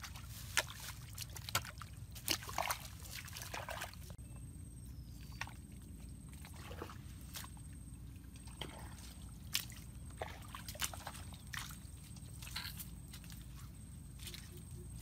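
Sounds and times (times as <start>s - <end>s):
feet squelching through mud: 0.0s - 4.2s, 5.4s - 15.0s.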